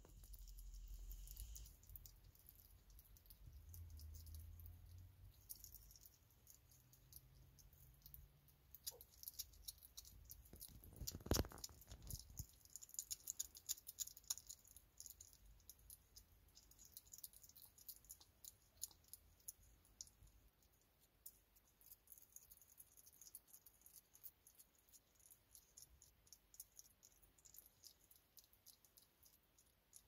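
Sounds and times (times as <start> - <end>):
animal smacking and chewing: 0.0 - 30.0.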